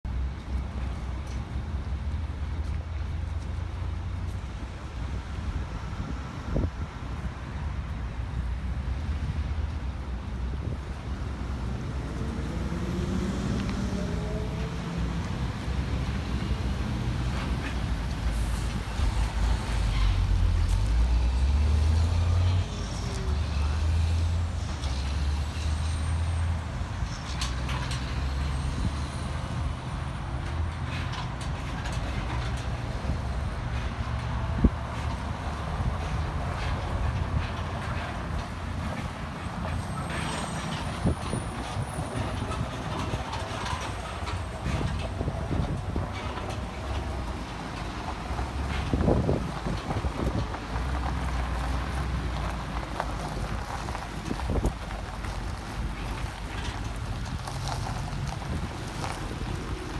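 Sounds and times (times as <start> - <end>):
truck engine rumbling: 0.0 - 59.9.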